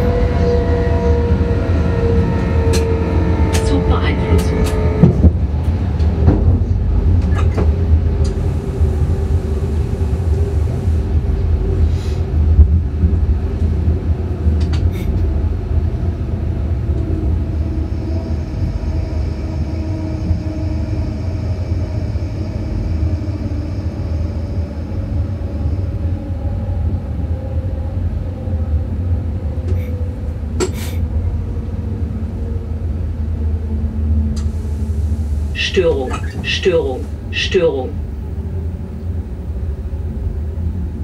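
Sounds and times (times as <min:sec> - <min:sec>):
train wheels rumbling on rail: 0:00.0 - 0:37.3.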